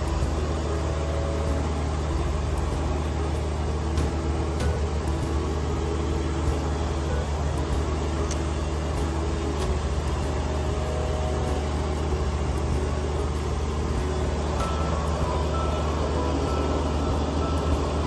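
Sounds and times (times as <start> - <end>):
low hum: 0.0 - 18.0
tractor diesel engine running: 0.0 - 18.0.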